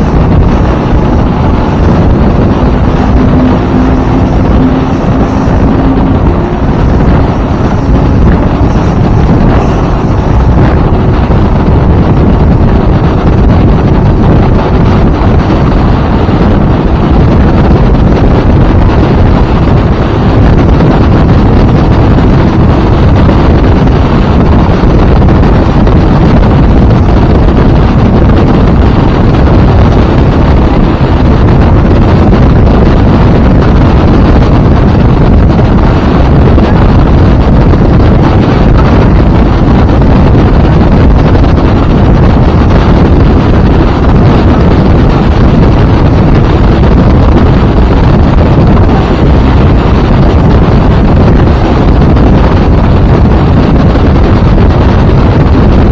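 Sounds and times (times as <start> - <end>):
boat motor: 0.0 - 55.9
water rushing under hull: 0.0 - 55.9
wind buffeting microphone: 0.0 - 55.9.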